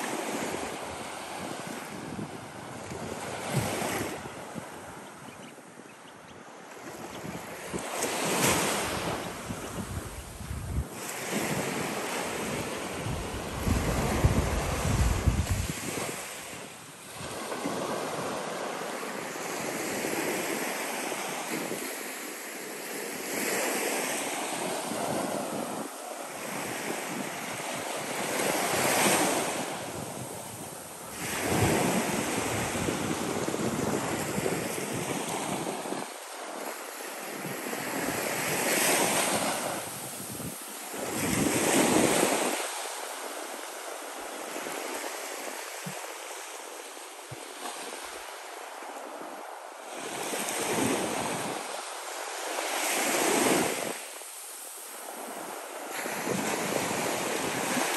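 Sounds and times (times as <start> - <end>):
small waves breaking on shore: 6.5 - 57.9.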